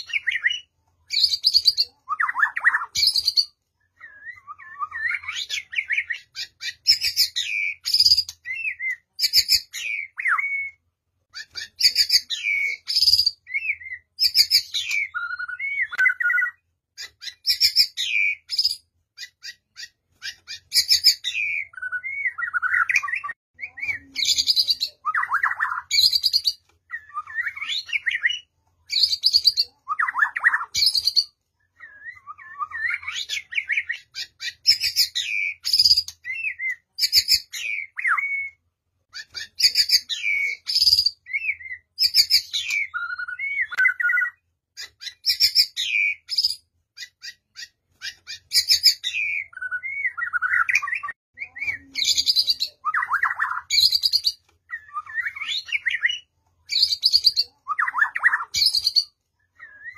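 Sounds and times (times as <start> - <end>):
bird singing chattering phrases: 0.0 - 59.9.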